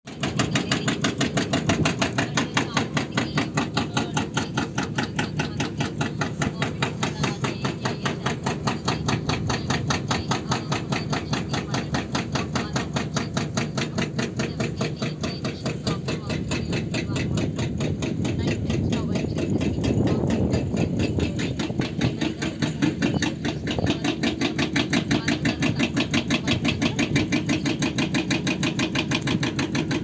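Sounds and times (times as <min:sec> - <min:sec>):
excavator diesel engine: 0:00.1 - 0:30.0
rapid hammering: 0:00.1 - 0:30.0.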